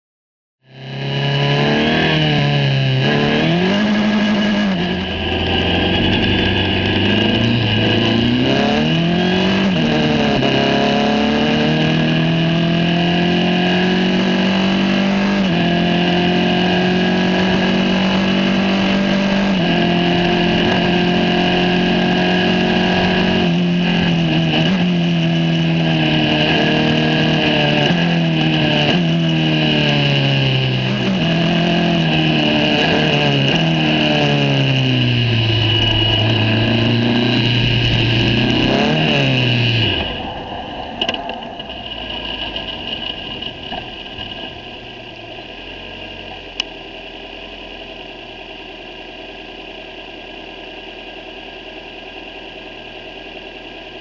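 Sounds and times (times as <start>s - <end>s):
racing car engine revving: 0.7s - 46.7s.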